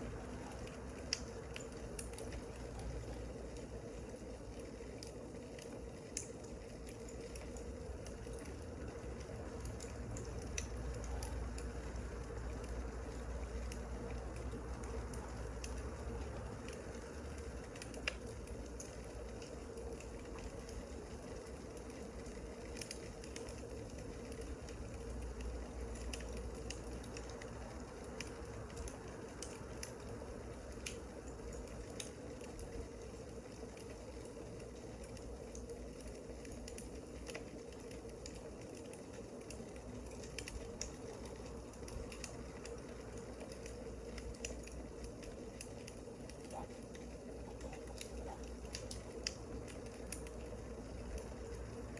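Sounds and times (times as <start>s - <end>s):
low steady hum: 0.0s - 51.9s
wood fire crackling: 0.0s - 51.9s.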